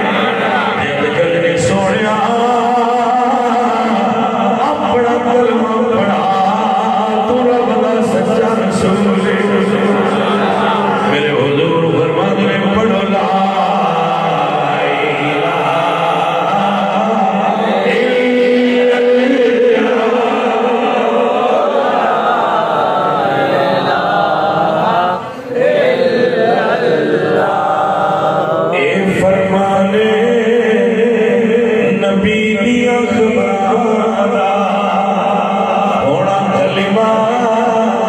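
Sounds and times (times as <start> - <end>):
men chanting over loudspeakers: 0.0 - 38.0.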